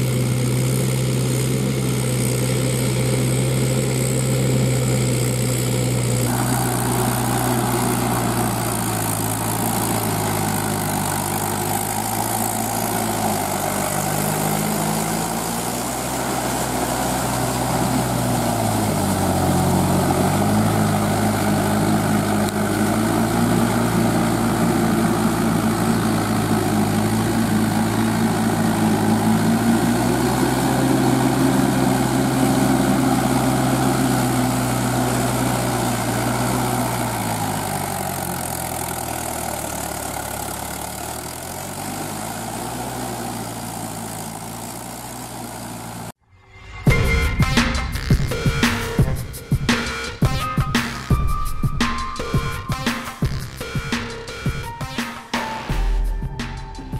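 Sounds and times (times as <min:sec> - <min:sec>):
tractor diesel engine running: 0:00.0 - 0:46.2, 0:46.9 - 0:56.9.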